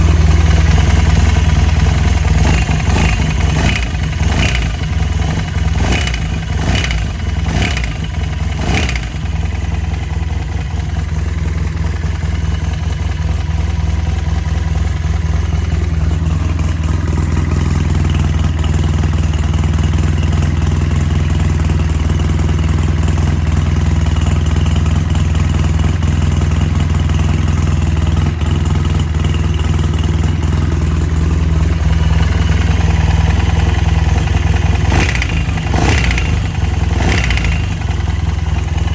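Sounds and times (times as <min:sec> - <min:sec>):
engine revving and idling: 0:00.0 - 0:38.9.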